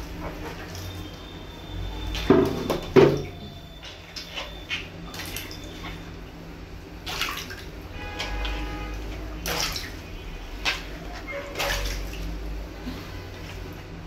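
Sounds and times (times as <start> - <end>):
water sloshing: 0.0 - 14.0.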